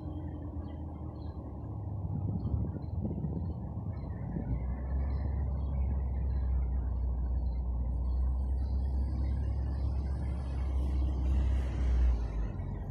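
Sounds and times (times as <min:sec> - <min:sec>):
faint traffic hiss: 0:00.0 - 0:12.9
vehicle engine running: 0:00.0 - 0:12.9.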